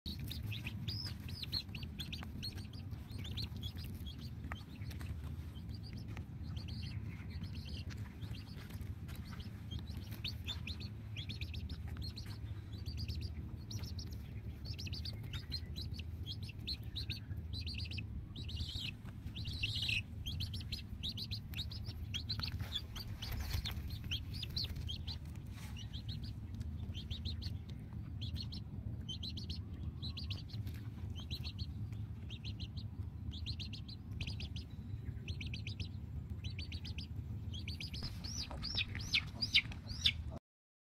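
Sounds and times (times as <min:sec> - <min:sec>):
birds chirping: 0:00.1 - 0:40.4
steady low rumble: 0:00.1 - 0:40.4.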